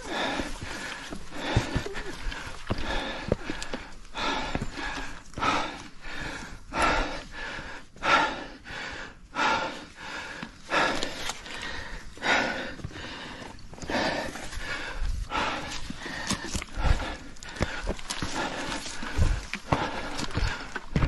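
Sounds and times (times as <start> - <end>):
heavy rapid breathing: 0.0 - 21.0.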